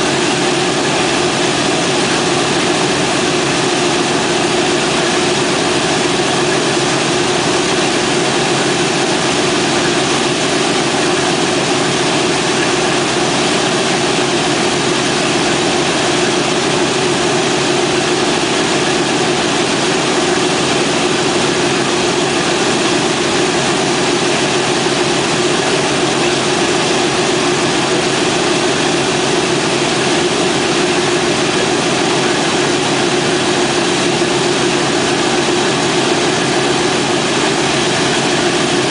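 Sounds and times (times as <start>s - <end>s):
propeller engines idling: 0.0s - 38.9s.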